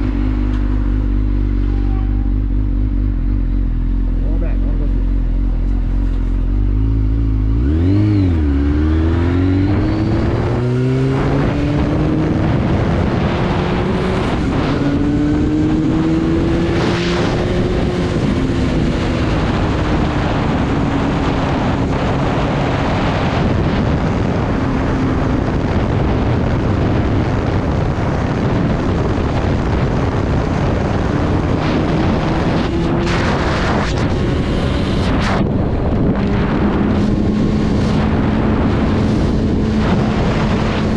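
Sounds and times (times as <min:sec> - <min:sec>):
motorcycle engine revving: 0:00.0 - 0:40.9
wind noise: 0:05.6 - 0:40.9.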